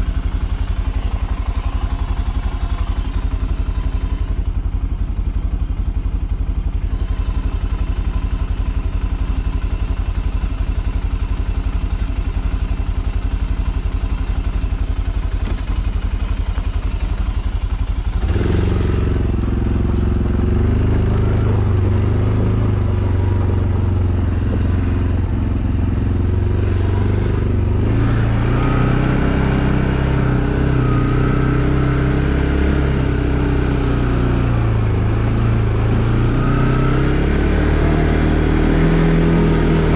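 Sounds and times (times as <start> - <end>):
atv engine idling and revving: 0.0 - 39.9.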